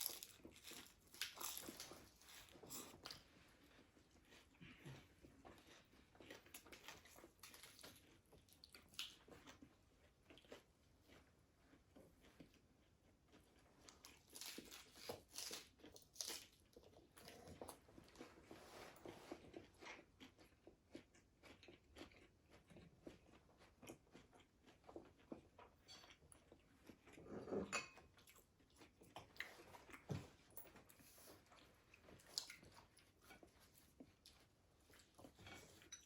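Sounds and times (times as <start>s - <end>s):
chewing crispy fried food: 0.0s - 36.0s.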